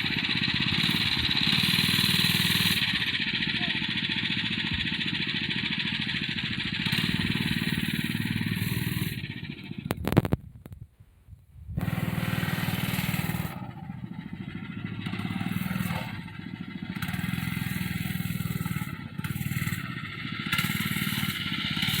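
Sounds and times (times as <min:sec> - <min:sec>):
small engine revving: 0:00.0 - 0:10.4, 0:11.8 - 0:22.0.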